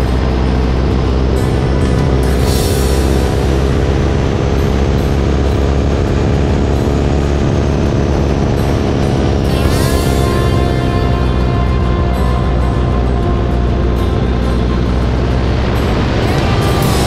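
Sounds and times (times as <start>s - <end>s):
airplane engine in flight: 0.0s - 17.0s
wind rushing past microphone: 0.0s - 17.0s.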